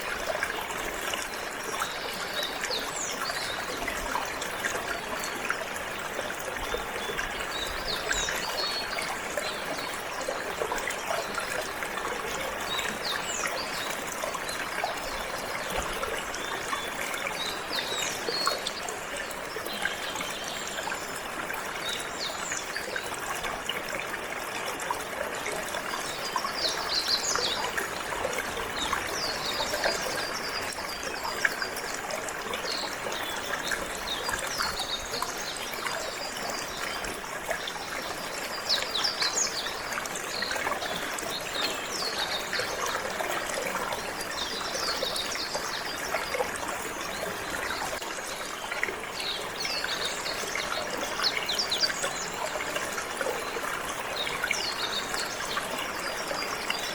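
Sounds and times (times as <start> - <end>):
water flowing and trickling: 0.0 - 56.9.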